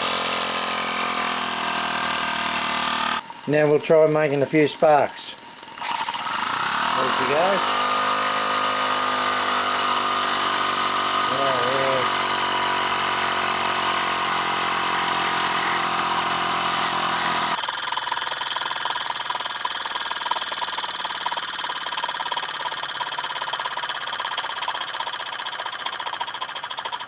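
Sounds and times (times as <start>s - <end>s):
grinding wheel whining: 0.0s - 27.0s
toy steam engine beating: 0.0s - 27.0s.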